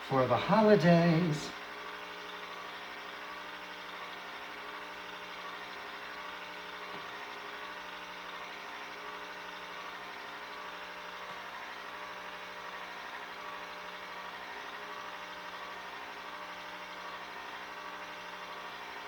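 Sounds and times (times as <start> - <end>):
ice cream maker motor humming: 0.0 - 19.0.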